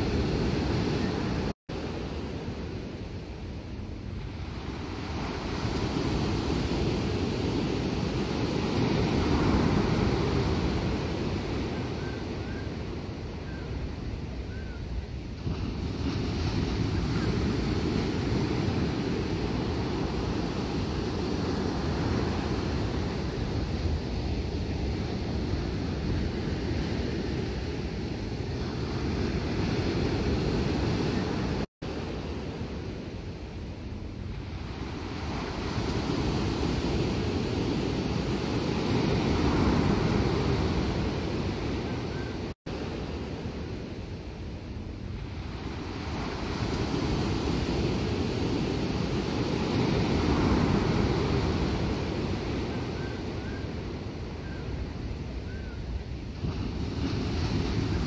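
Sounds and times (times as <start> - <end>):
ocean surf breaking: 0.0 - 3.2, 4.1 - 13.4, 15.3 - 55.4, 56.2 - 58.0
wind rumble on microphone: 0.0 - 58.0.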